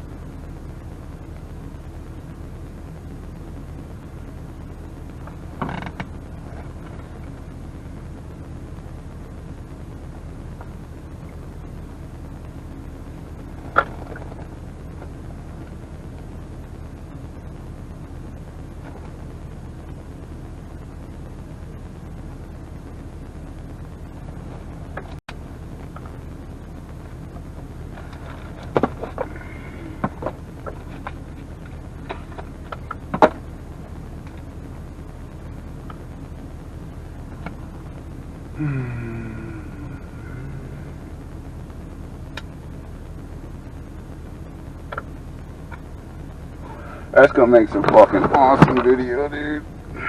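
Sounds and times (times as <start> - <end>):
vehicle engine rumble: 0.0 - 50.0.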